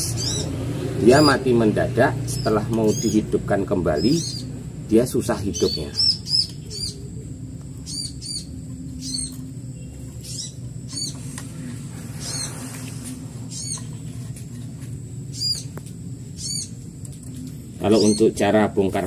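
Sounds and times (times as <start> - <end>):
small bird chirping: 0.0 - 1.6, 2.2 - 14.6, 15.2 - 18.4
low steady hum: 0.0 - 19.0.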